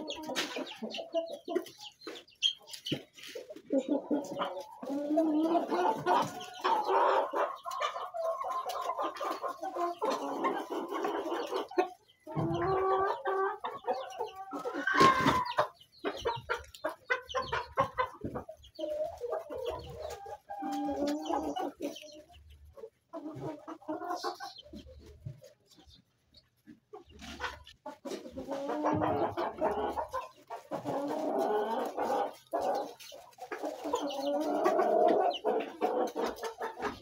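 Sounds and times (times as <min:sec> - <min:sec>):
chickens clucking and calling: 0:00.0 - 0:37.0.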